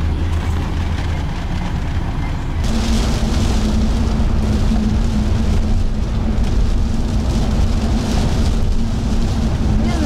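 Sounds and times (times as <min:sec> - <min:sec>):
vehicle humming: 0:00.0 - 0:10.0
rain falling: 0:00.2 - 0:10.0.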